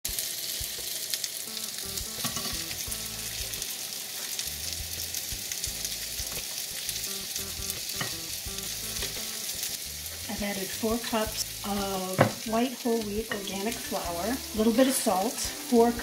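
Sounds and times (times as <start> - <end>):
seeds sizzling in hot ghee: 0.1 - 16.0.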